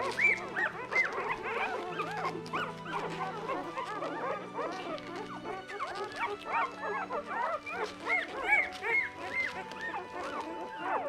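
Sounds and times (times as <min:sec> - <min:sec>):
puppies squeaking and whimpering: 0:00.0 - 0:11.0.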